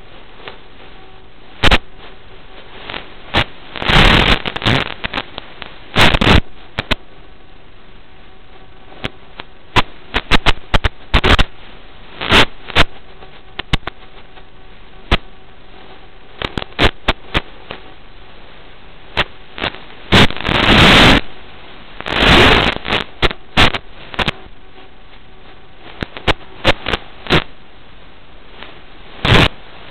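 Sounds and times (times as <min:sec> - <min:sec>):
sharp crackling pops: 0:00.0 - 0:07.1, 0:08.4 - 0:27.6, 0:28.5 - 0:29.9
loud bursts of static: 0:00.0 - 0:29.9
static hiss: 0:00.0 - 0:29.9.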